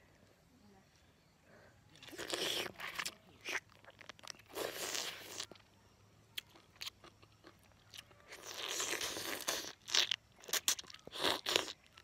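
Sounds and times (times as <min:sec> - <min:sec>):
person chewing juicy fruit: 0:01.9 - 0:12.0.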